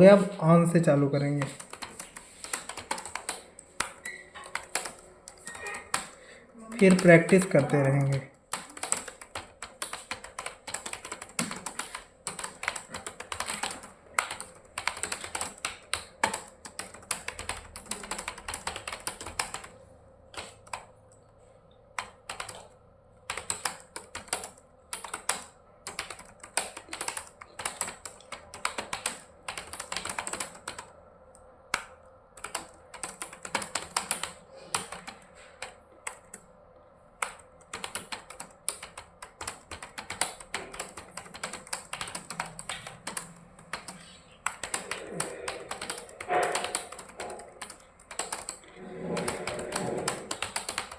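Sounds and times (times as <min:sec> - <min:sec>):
fast typing on keyboard: 0:00.0 - 0:21.2, 0:21.9 - 0:31.0, 0:31.7 - 0:36.5, 0:37.2 - 0:50.9.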